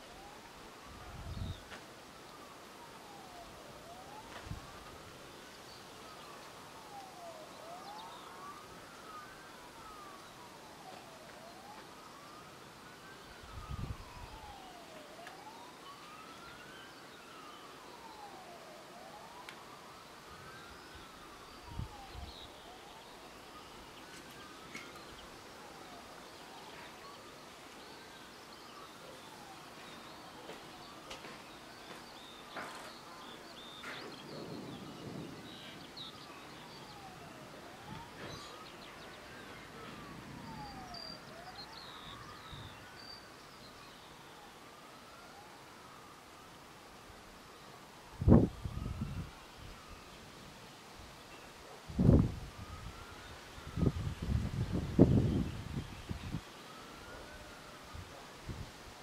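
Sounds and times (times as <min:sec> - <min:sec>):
faint wailing siren: 0:00.0 - 0:59.0.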